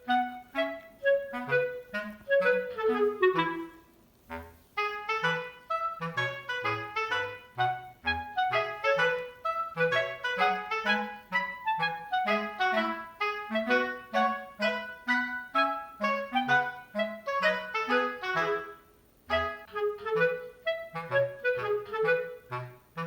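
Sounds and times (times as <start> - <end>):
bouncy background music: 0.0 - 23.0.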